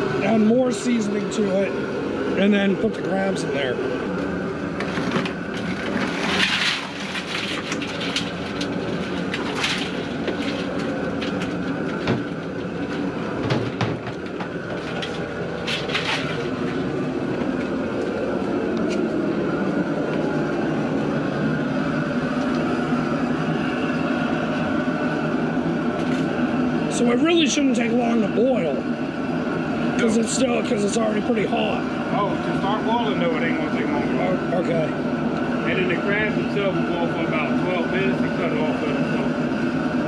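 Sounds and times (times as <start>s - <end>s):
gas burner roaring: 0.0s - 40.0s.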